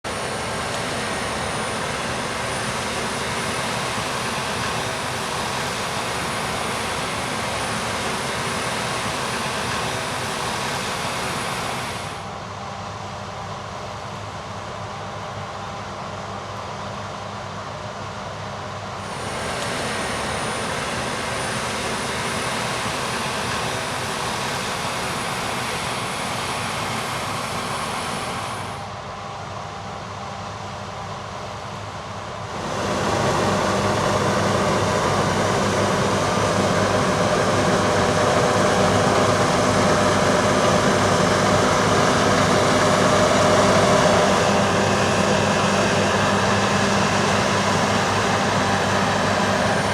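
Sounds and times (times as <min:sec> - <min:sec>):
combine harvester drone: 0:00.0 - 0:49.9.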